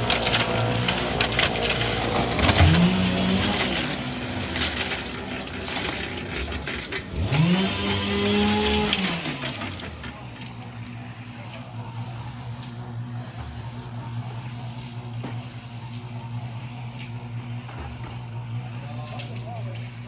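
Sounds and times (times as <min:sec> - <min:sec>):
construction clattering din: 0:00.0 - 0:16.1
motor whining: 0:00.1 - 0:19.4.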